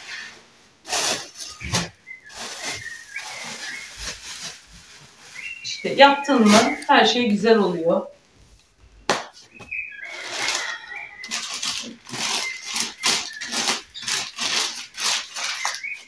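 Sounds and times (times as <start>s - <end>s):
newspaper rustling and crinkling: 0.8s - 7.2s, 9.4s - 16.0s.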